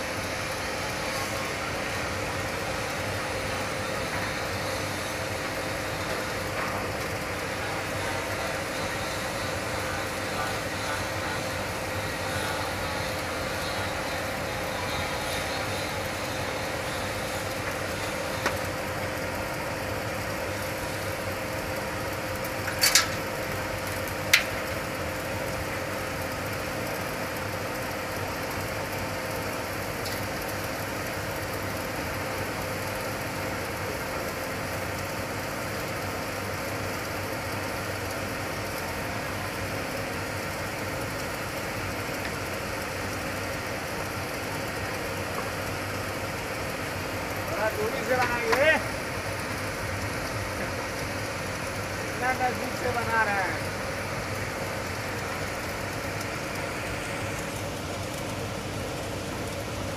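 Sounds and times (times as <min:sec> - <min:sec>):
machinery humming: 0:00.0 - 0:36.2, 0:36.8 - 0:59.9.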